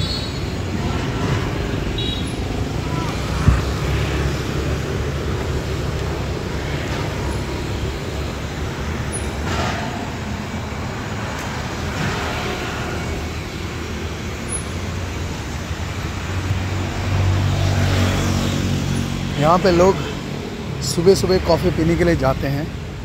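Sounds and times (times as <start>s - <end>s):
traffic rumble: 0.0s - 23.0s
vehicles passing close by: 0.0s - 23.0s.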